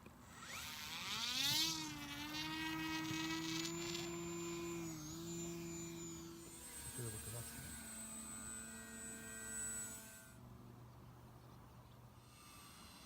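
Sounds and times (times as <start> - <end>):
electric motor and propeller whine: 0.0 - 13.0.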